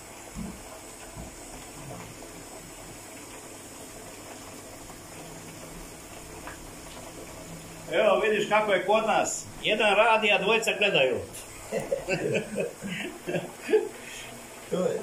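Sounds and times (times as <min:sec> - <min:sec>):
electric pump circulating water: 0:00.0 - 0:15.0.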